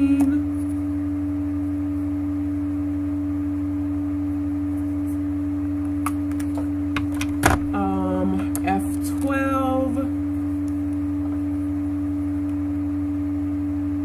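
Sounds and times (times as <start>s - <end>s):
steady mid-pitched hum: 0.0s - 14.0s.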